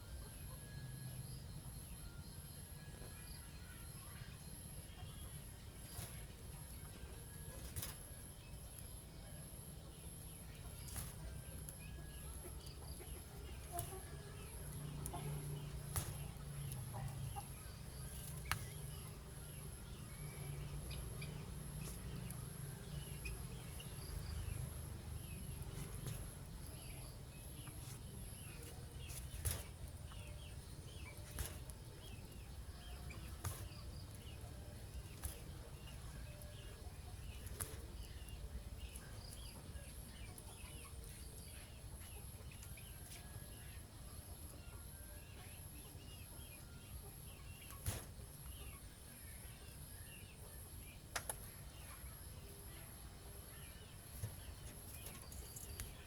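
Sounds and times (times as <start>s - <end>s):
small bird chirps: 0.0s - 56.0s.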